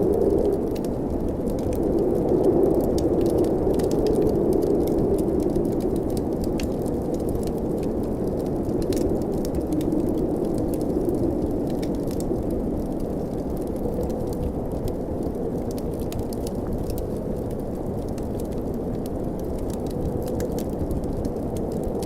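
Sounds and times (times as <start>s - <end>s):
blizzard wind blowing: 0.0s - 22.0s
wood fire crackling: 0.0s - 22.0s.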